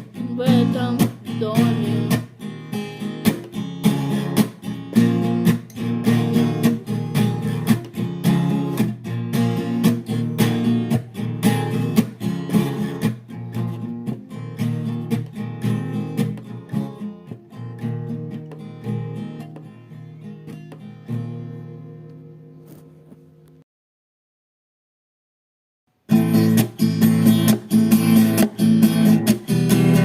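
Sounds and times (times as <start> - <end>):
acoustic guitar strumming: 0.0 - 23.1, 26.1 - 30.0.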